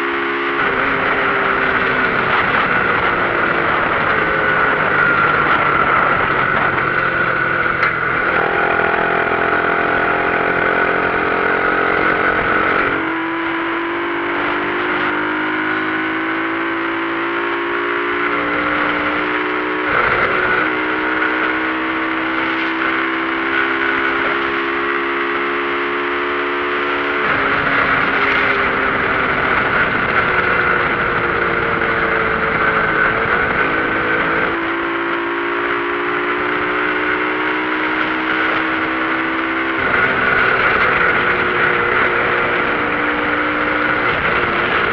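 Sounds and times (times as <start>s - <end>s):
motorcycle engine shifting gears: 0.0s - 44.9s.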